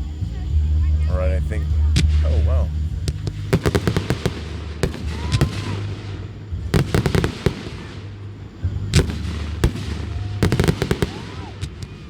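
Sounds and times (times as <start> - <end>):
fireworks crackling pops: 0.0 - 12.0
fireworks bangs: 1.3 - 12.0.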